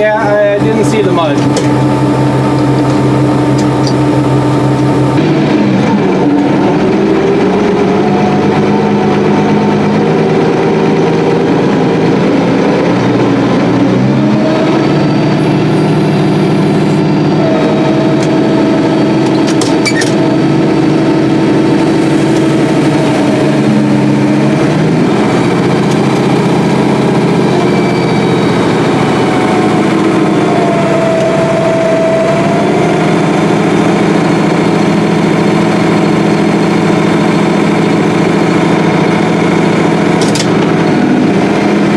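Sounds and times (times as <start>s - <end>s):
combine harvester droning: 0.0s - 41.9s.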